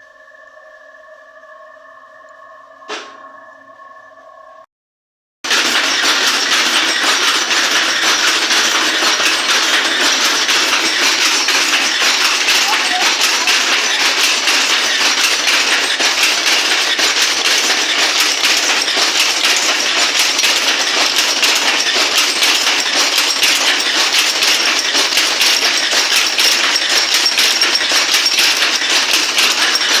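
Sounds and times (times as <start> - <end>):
weaving looms clattering: 5.5 - 30.0.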